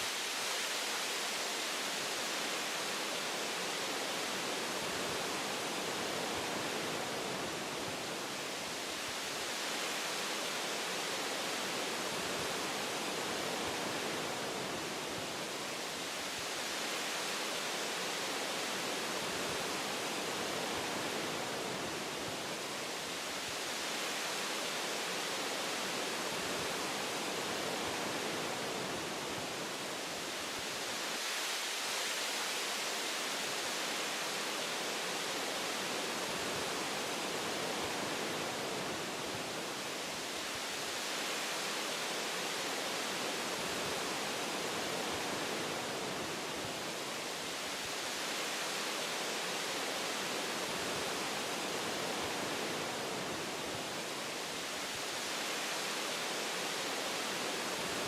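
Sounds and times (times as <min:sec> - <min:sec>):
wind through tree branches: 0:00.0 - 0:58.0.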